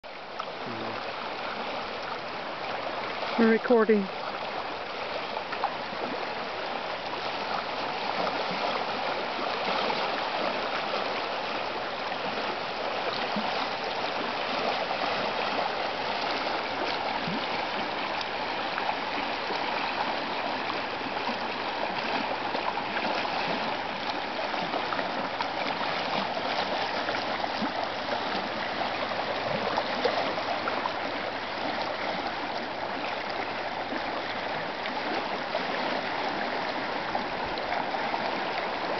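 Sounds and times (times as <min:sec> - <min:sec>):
water rushing and burbling: 0:00.0 - 0:38.9.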